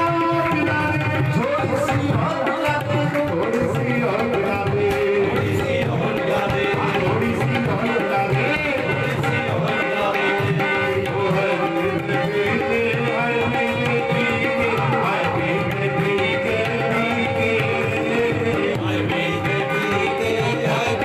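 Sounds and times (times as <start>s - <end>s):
tabla drumming: 0.0s - 21.0s.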